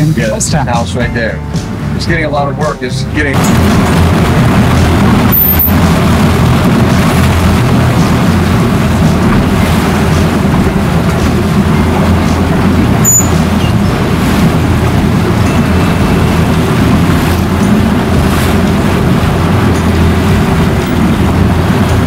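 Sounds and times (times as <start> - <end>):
motorboat engine droning: 0.0 - 22.0
wind and water rushing: 0.0 - 22.0.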